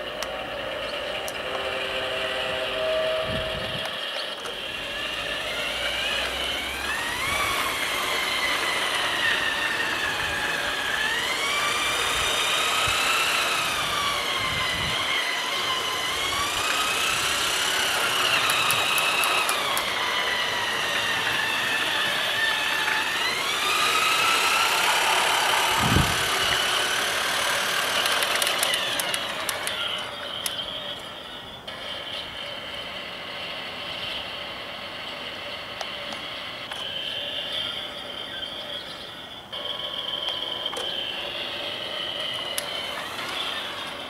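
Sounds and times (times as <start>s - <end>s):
toy train motor whining: 0.0s - 44.0s.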